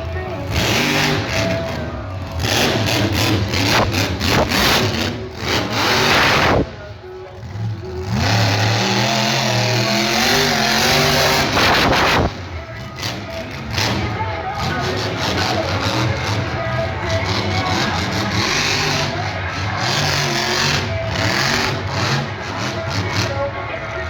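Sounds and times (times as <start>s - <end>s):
truck engine revving hard: 0.0s - 24.0s.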